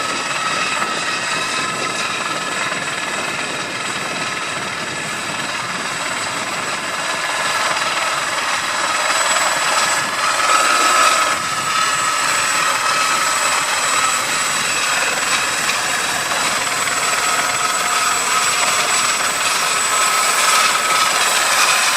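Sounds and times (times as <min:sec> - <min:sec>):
helicopter running: 0:00.0 - 0:21.9.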